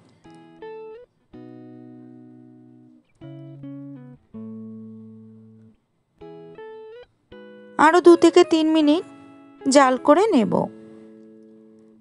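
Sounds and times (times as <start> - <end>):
plucked-string background music: 0.0 - 12.0.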